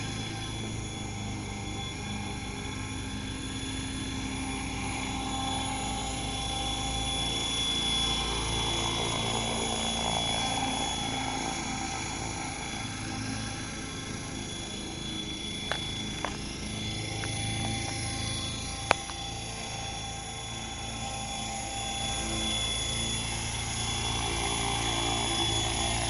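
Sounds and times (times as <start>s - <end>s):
model helicopter motor and rotor: 0.0s - 26.0s.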